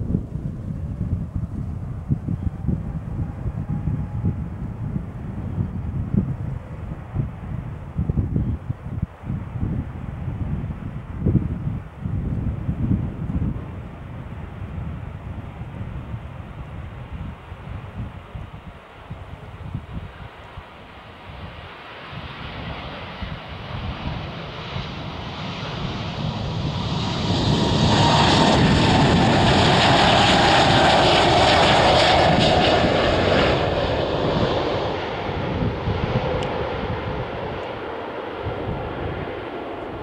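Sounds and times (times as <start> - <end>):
jet engines at takeoff thrust: 0.0 - 40.0.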